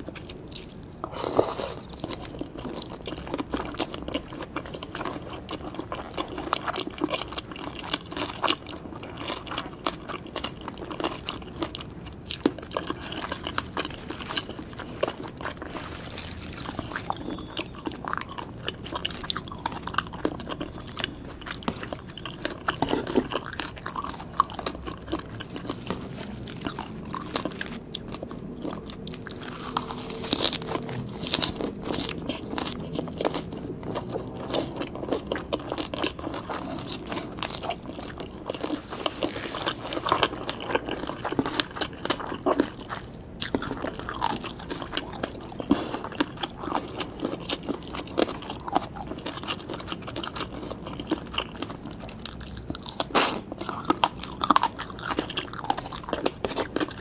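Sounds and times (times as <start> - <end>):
crunching and chewing salad: 0.0 - 57.0.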